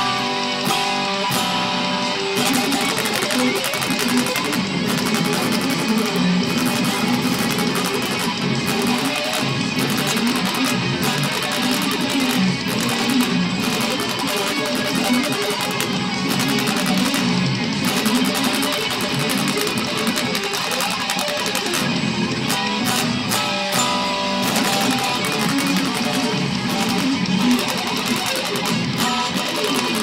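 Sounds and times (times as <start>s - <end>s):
electric guitar metal riffs: 0.0s - 30.0s.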